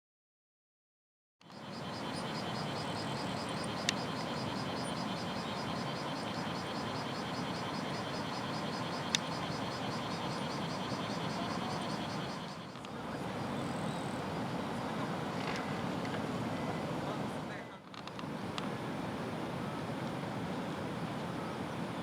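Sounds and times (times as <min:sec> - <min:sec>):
insects chirring: 0:01.5 - 0:15.8, 0:18.0 - 0:22.0.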